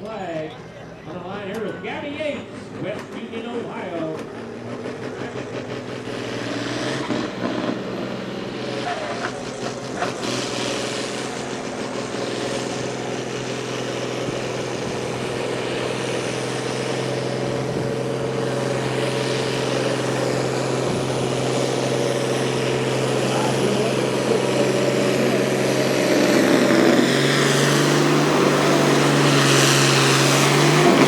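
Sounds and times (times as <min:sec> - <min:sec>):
pulling vehicle engine droning: 0:00.0 - 0:31.0.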